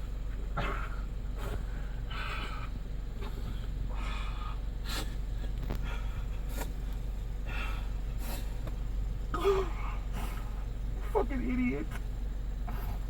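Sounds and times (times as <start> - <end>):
steady low hum: 0.0 - 13.0
close breathing puffs: 0.6 - 11.0, 12.6 - 13.0.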